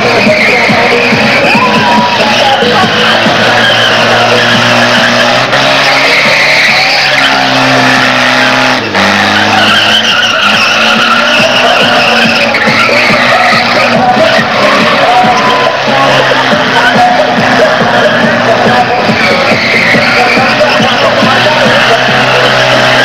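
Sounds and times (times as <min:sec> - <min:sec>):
car engine at high revs: 0:00.0 - 0:23.0
tyres screeching: 0:00.0 - 0:23.0.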